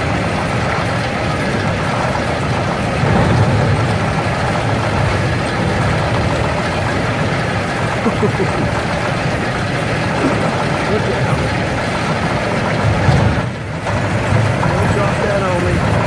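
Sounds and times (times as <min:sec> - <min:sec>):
crane lifting logs: 0:00.0 - 0:16.0
diesel truck idling: 0:00.0 - 0:16.0.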